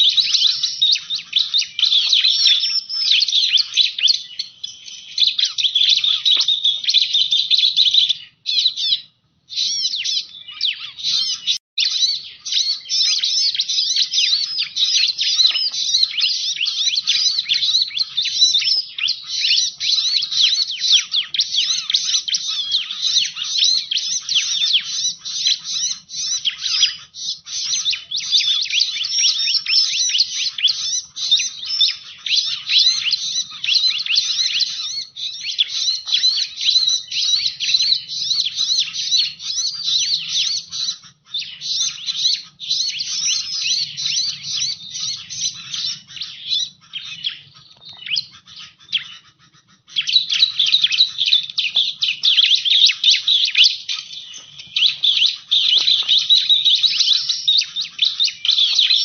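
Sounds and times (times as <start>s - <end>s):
bird chirping rapidly: 0.0s - 59.0s.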